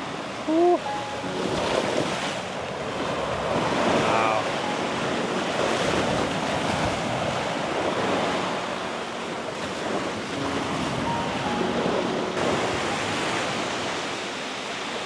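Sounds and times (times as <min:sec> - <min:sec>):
sea waves washing onto shore: 0:00.0 - 0:15.0
wind buffeting microphone: 0:01.3 - 0:15.0.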